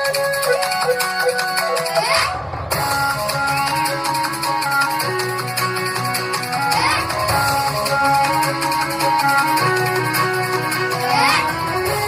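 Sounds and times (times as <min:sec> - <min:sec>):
instrumental dance music: 0:00.0 - 0:12.0.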